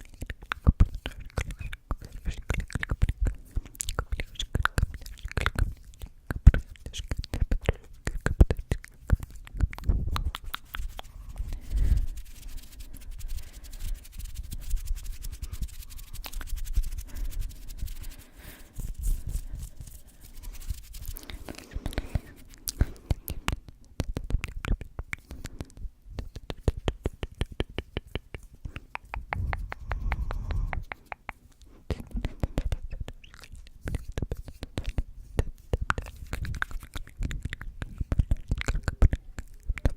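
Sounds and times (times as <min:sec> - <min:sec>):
mouth clicks and taps: 0:00.0 - 0:39.9.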